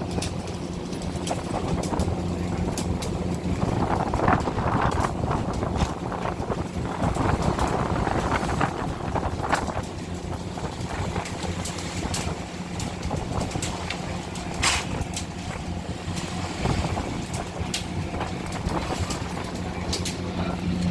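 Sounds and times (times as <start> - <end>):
boat engine droning: 0.0 - 20.9
sea noise: 0.0 - 20.9
wind: 0.0 - 20.9.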